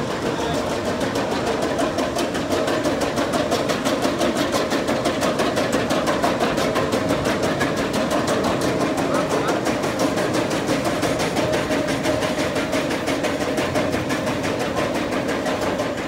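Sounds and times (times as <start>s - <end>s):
rapid even clicking: 0.6s - 16.0s.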